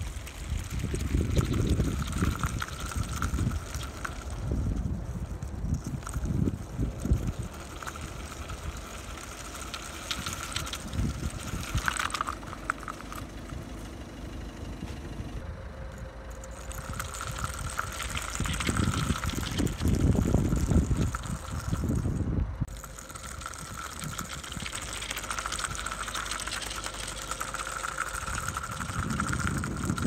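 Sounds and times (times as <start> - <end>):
wind buffeting microphone: 0.0 - 12.5, 16.6 - 26.9, 27.7 - 30.0
wheels swishing through mud: 0.0 - 15.1, 16.0 - 30.0.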